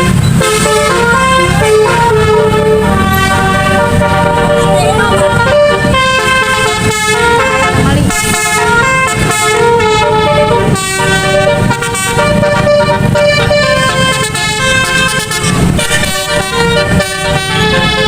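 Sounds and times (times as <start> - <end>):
musical air horn melody: 0.0 - 18.0
low rumble: 1.3 - 17.0.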